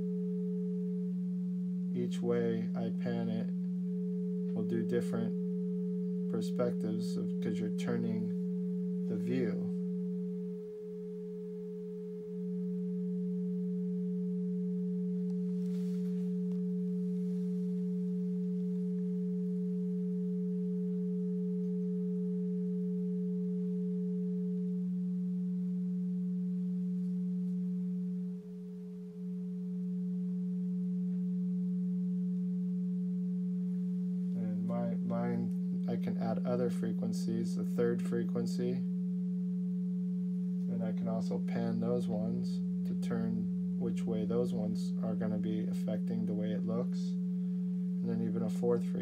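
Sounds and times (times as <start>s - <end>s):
higher faint sine tone: 0.0s - 49.0s
low electronic sine tone: 0.0s - 49.0s.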